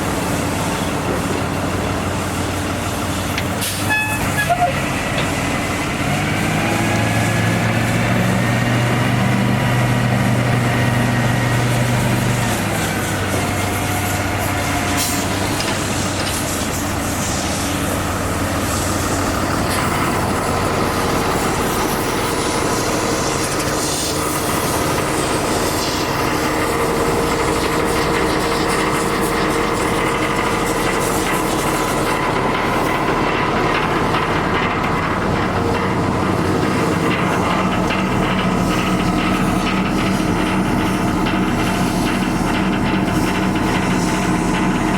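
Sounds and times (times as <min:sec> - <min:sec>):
diesel truck engine drone: 0:00.0 - 0:44.9.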